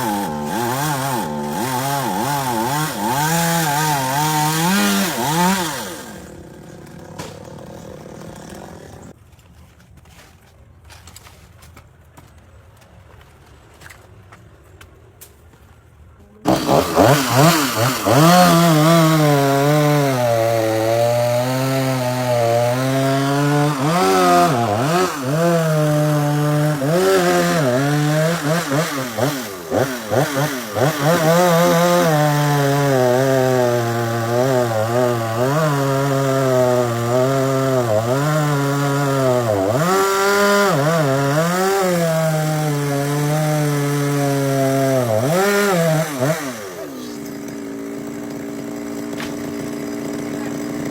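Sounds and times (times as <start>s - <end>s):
chainsaw cutting wood: 0.0s - 9.2s, 16.4s - 50.9s.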